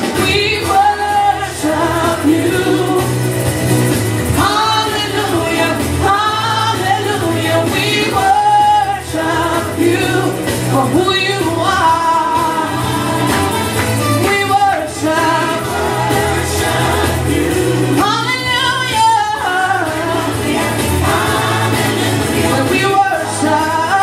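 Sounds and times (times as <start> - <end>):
woman singing gospel song: 0.0 - 3.5, 4.3 - 24.0
instrumental backing with bass line: 0.0 - 24.0.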